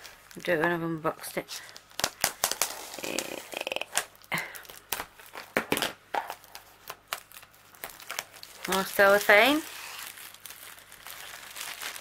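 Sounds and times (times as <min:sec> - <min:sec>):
plastic film crackling: 0:00.0 - 0:12.0.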